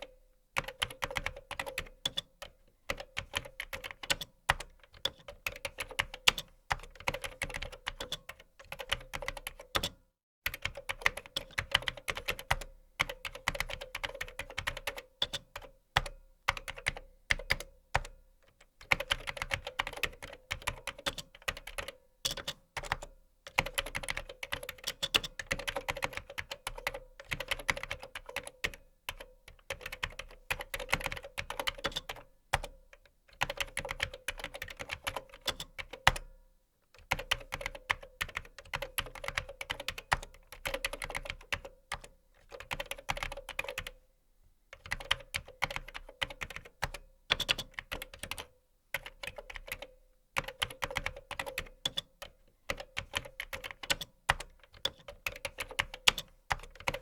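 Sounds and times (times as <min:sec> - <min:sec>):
typing on computer keyboard: 0:00.0 - 0:36.4, 0:37.0 - 0:44.0, 0:44.8 - 0:57.0.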